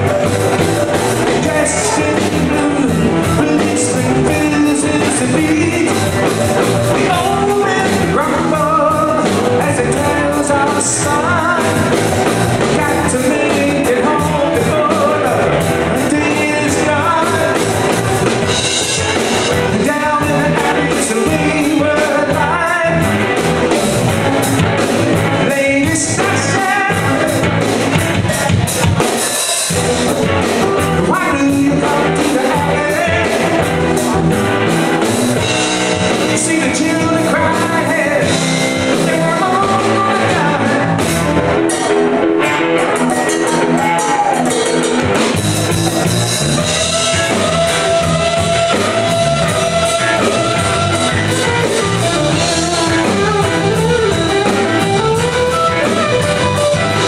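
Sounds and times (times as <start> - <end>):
person singing: 0.0 - 45.3, 45.9 - 57.0
bass guitar: 0.0 - 57.0
drum kit: 0.0 - 57.0
electric guitars: 0.0 - 57.0.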